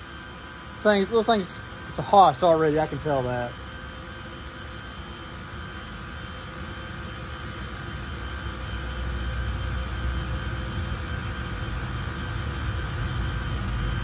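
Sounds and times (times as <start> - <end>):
fans whirring hiss: 0.0 - 14.0.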